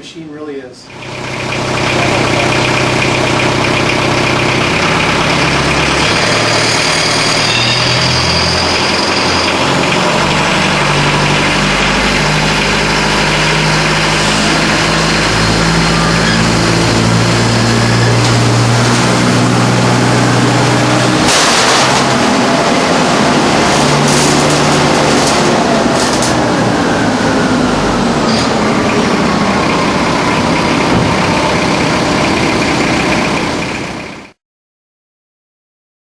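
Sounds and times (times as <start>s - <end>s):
vacuum truck engine and fan: 0.0s - 34.4s
falling whine: 1.6s - 34.0s.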